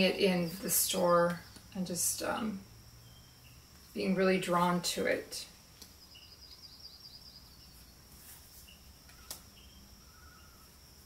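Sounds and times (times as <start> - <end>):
faint steady high whine: 0.0 - 11.0.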